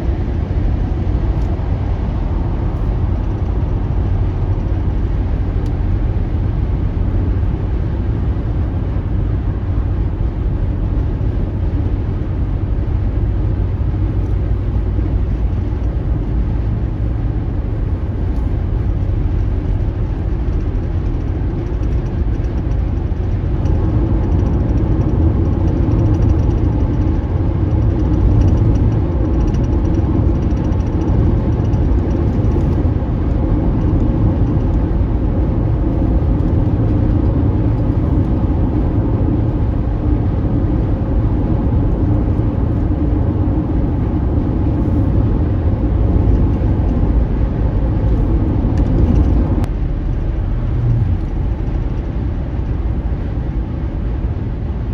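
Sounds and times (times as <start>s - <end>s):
car engine rumble: 0.0s - 54.9s
road noise: 0.0s - 54.9s.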